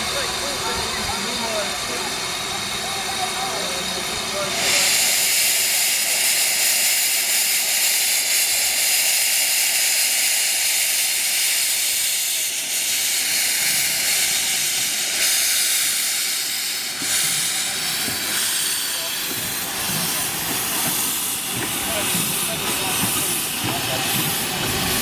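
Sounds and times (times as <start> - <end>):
steam hissing loudly: 0.0 - 25.0.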